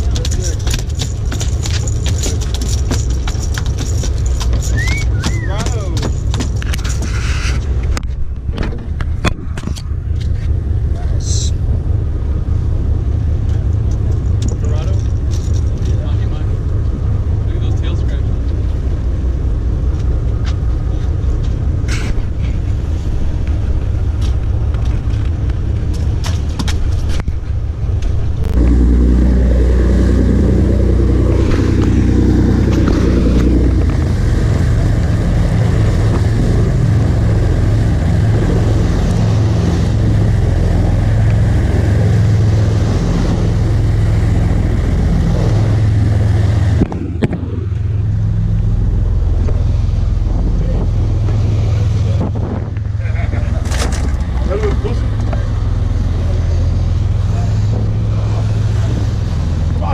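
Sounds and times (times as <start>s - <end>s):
boat engines rumbling: 0.0s - 59.9s.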